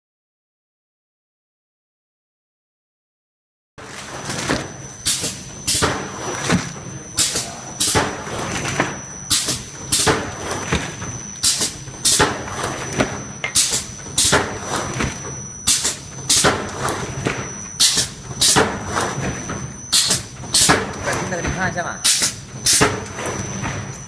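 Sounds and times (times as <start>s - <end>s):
machine humming: 3.8s - 24.0s.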